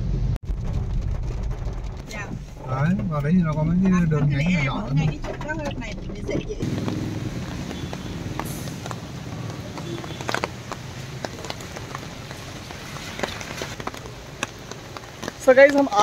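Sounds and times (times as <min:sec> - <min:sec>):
car engine and road hum: 0:00.0 - 0:16.0
rain tapping on car body: 0:00.4 - 0:16.0.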